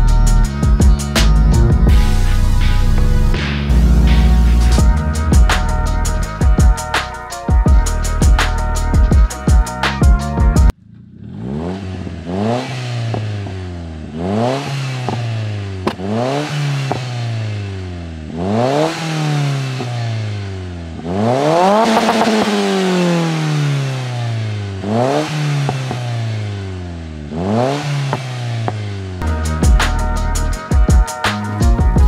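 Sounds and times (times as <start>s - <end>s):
car engine revving: 0.0s - 30.6s.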